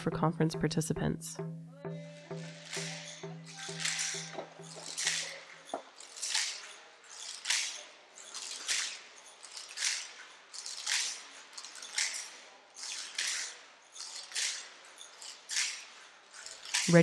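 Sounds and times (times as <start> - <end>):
hand rattle shaking: 1.8 - 17.0.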